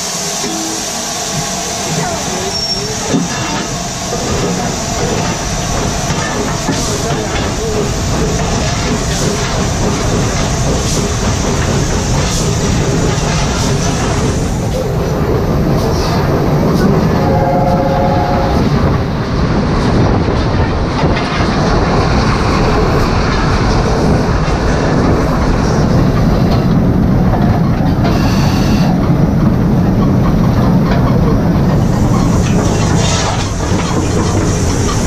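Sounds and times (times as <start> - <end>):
steam locomotive and wheels on track: 0.0 - 35.0.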